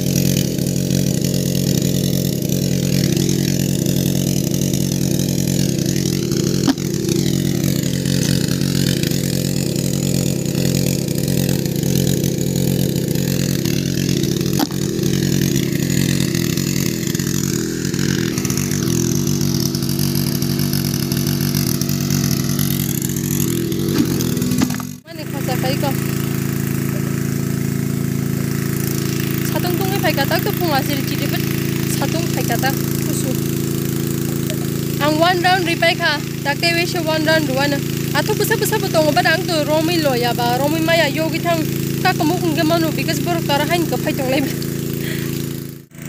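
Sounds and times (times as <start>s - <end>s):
engine running steadily: 0.0s - 46.0s.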